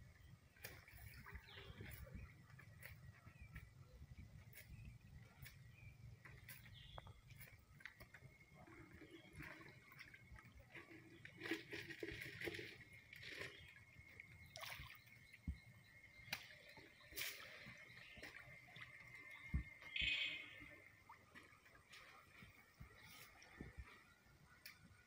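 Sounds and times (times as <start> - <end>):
pond water sloshing: 0.0 - 25.0.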